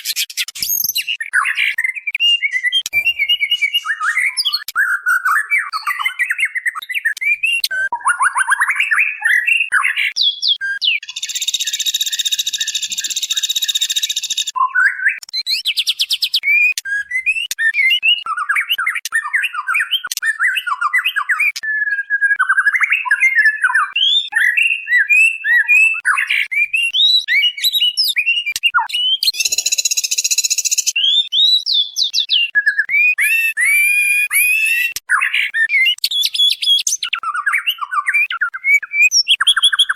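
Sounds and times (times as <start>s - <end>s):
bird chirping and whistling: 0.0s - 39.9s.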